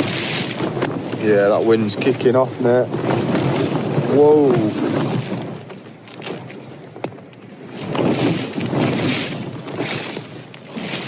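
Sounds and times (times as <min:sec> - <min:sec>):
tent fabric buffeting and rattling: 0:00.0 - 0:11.0
wind gusting: 0:00.0 - 0:11.0.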